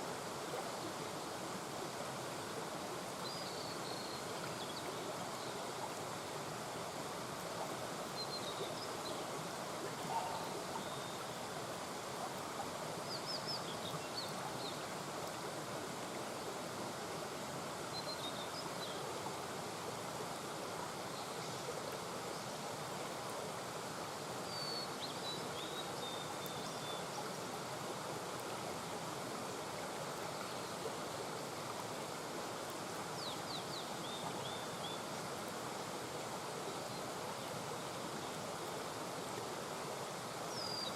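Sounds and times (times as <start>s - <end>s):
brook flowing over rocks: 0.0s - 40.9s.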